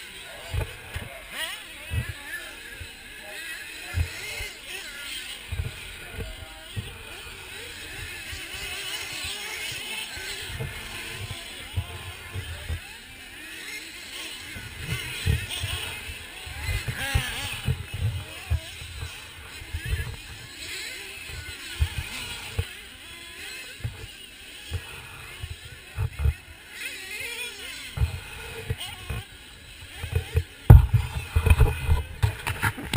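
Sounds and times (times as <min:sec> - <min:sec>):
rc car motors whining: 0:00.0 - 0:32.9.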